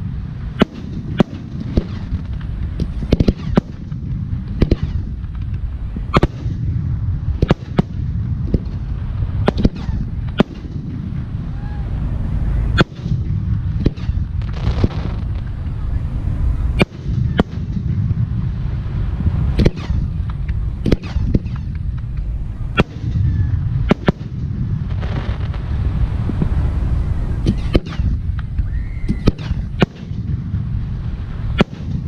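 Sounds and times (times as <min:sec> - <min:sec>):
fireworks bursting: 0:00.0 - 0:32.0
low rumble: 0:00.0 - 0:32.0.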